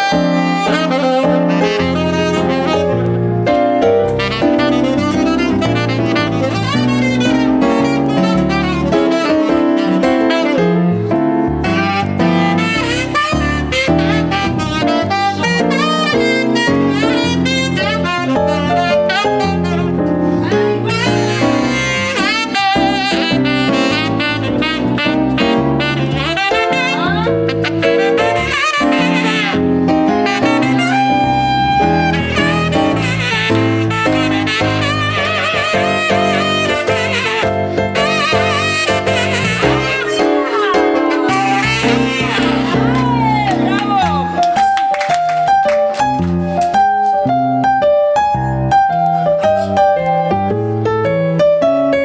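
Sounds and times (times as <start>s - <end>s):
saxophone solo: 0.0s - 50.9s
piano and band accompaniment: 0.0s - 52.0s.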